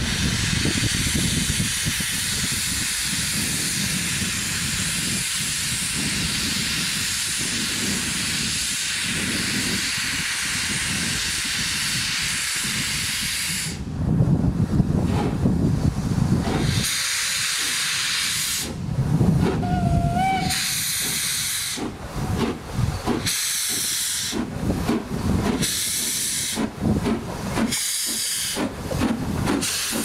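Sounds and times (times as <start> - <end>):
steam hissing from locomotive: 0.0 - 13.9, 15.1 - 30.0.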